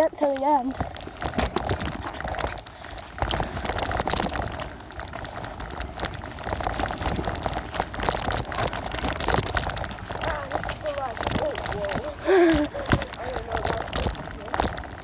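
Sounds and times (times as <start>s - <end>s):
tyre and wind rumble: 0.0s - 15.0s.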